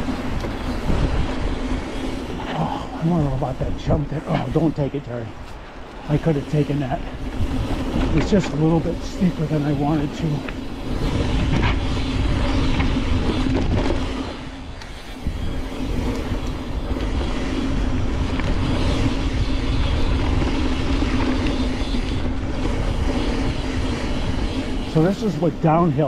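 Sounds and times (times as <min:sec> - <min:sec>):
bike tyres and frame rattling: 0:00.0 - 0:26.0
wind rushing over microphone: 0:00.0 - 0:26.0.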